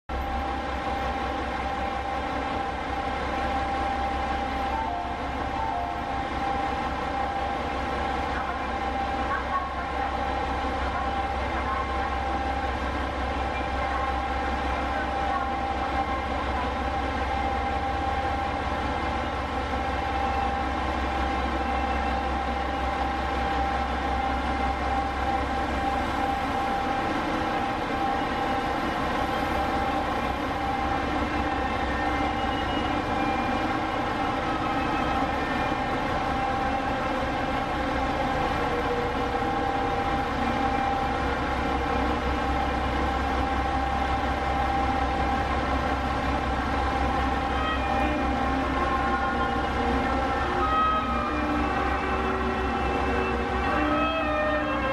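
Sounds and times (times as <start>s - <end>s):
diesel railcar engines droning: 0.1s - 54.9s.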